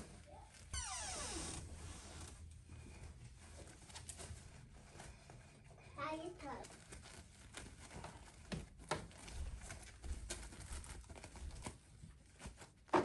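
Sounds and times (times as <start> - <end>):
stiff cloth rustling: 1.4 - 12.9.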